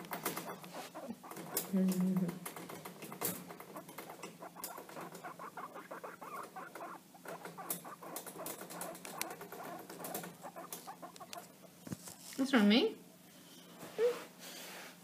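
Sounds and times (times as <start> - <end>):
guinea pigs squeaking: 0.0 - 12.1
patter of little feet: 0.0 - 12.5.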